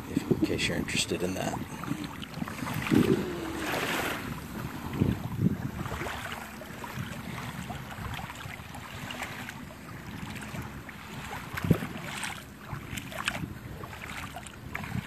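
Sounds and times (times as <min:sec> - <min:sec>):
small waves lapping: 0:00.0 - 0:15.0
wind on microphone: 0:00.0 - 0:15.0.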